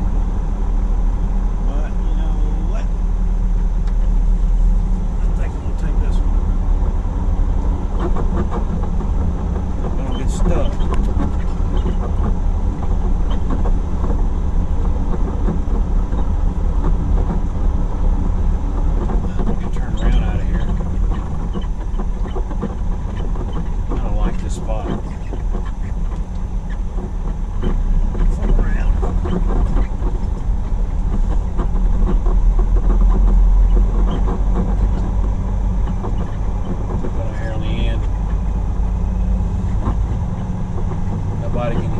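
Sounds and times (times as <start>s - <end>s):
diesel truck engine rumbling: 0.0s - 41.9s
light ticks and rattles: 1.8s - 41.9s.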